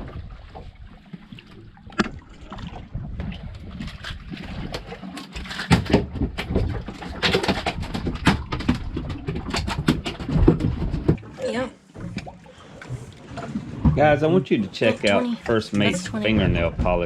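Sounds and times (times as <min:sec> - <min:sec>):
knocks and splashy clicks: 0:00.0 - 0:14.3
boat low rumble: 0:00.0 - 0:17.0.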